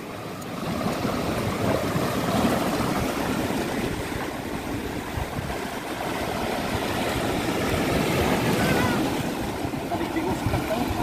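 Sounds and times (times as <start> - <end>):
sea waves splashing over rocks: 0.0 - 11.0.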